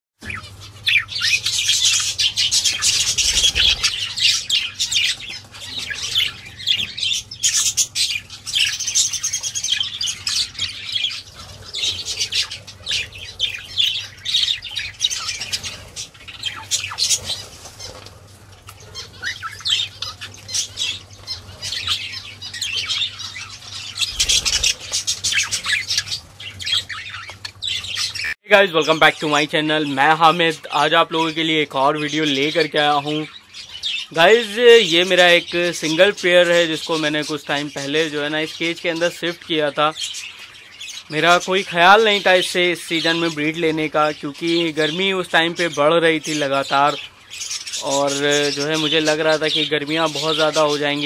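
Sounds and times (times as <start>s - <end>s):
budgerigars chattering and warbling: 0.2s - 51.0s.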